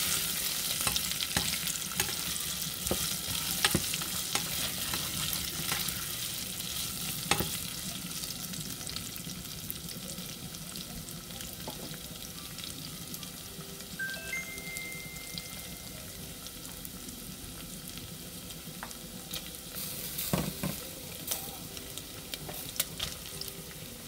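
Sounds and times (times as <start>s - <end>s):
meat and vegetables sizzling in a pot: 0.0s - 24.0s.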